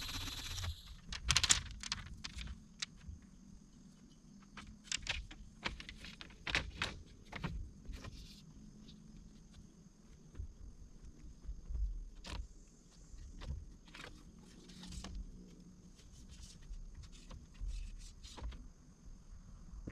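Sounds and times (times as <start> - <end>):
faint high-pitched hum: 0.0 - 19.9.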